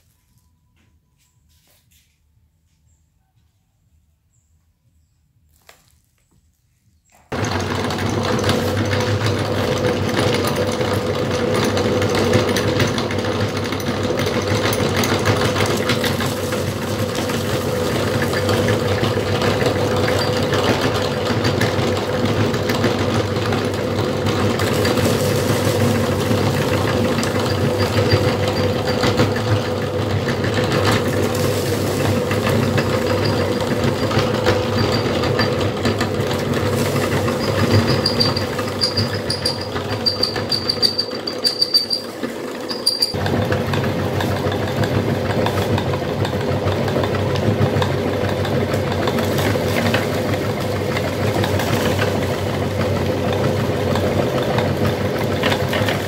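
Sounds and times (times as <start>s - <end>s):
meat grinder motor humming: 7.3s - 56.0s.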